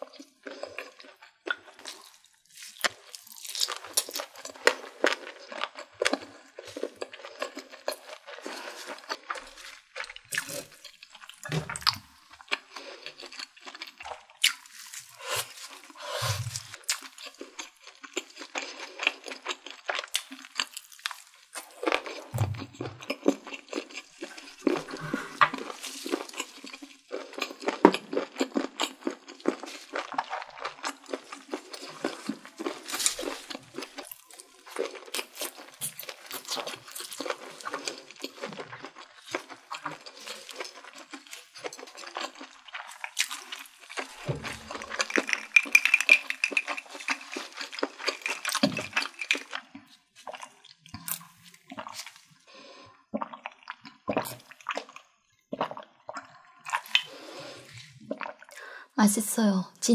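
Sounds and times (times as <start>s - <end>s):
chewing food crunching: 0.0s - 59.0s.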